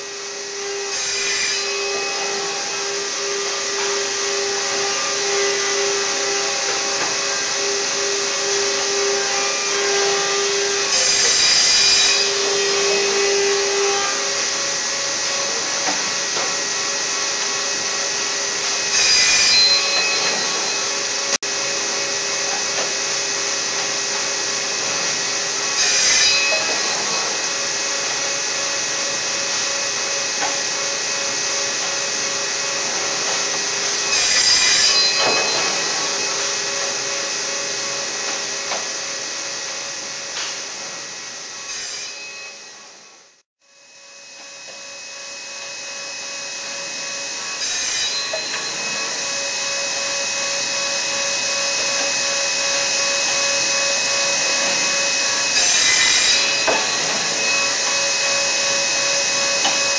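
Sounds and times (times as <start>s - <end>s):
panel saw cutting wood: 0.0s - 43.4s, 44.3s - 59.9s.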